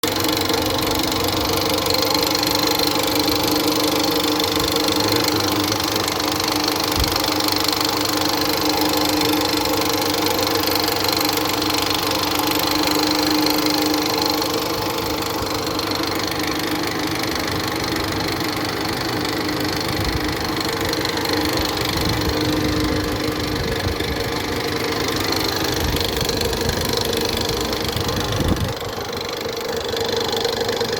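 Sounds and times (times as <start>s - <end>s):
car engine idling with knock: 0.0s - 30.9s.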